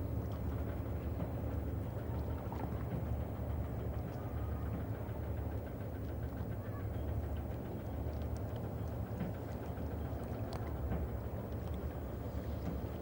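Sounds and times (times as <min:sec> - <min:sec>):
distant boat engine hum: 0:00.0 - 0:13.0.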